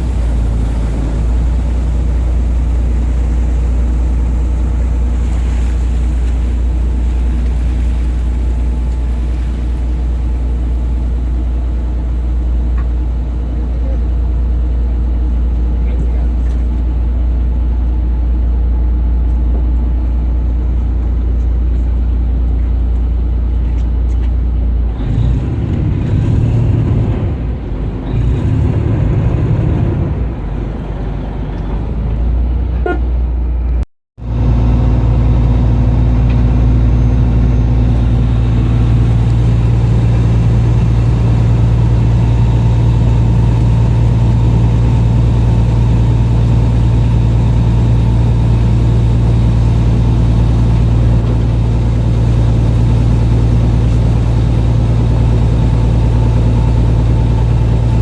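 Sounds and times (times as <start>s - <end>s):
heavy engine humming: 0.0s - 58.0s.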